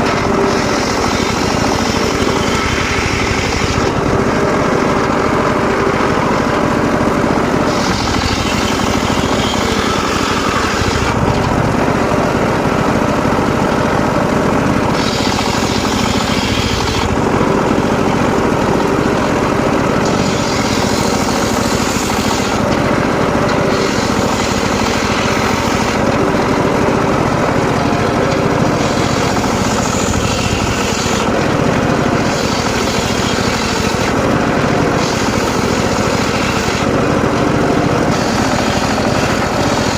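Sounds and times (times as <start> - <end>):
saw cutting wood: 0.0 - 39.9
sawmill machine drone: 0.0 - 39.9.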